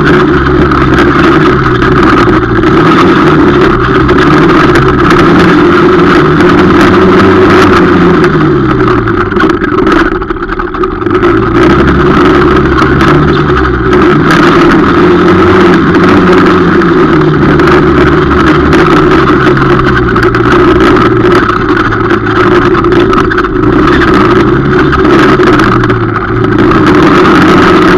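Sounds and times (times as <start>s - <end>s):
quad engine revving: 0.0s - 27.9s.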